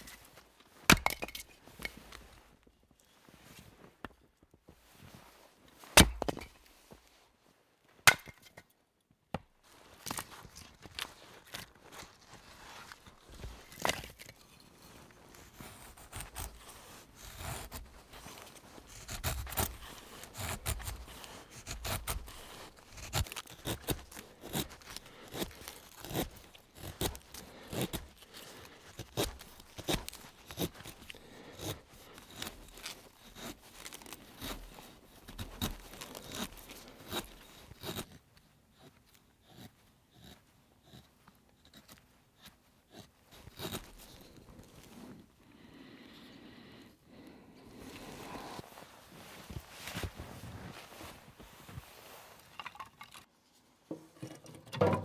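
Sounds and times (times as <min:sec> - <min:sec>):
axe blade scraping wood: 0:00.0 - 0:02.4, 0:05.9 - 0:06.7, 0:10.0 - 0:45.2, 0:47.7 - 0:53.3, 0:53.9 - 0:55.0.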